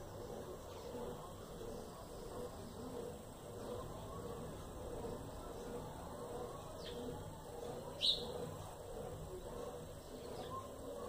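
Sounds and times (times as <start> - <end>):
low background murmur: 0.0 - 11.0.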